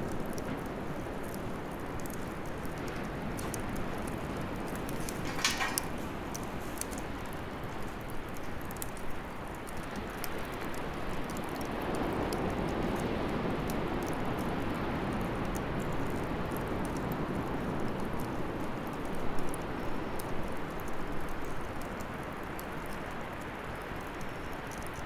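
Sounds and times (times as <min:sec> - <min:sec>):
fire roaring: 0:00.0 - 0:20.2
fire crackling and popping: 0:00.0 - 0:25.0.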